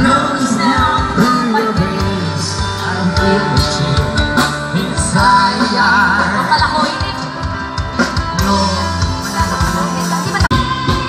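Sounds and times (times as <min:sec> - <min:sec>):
bass line: 0:00.0 - 0:11.0
drum kit: 0:00.0 - 0:11.0
electric guitar: 0:00.0 - 0:11.0.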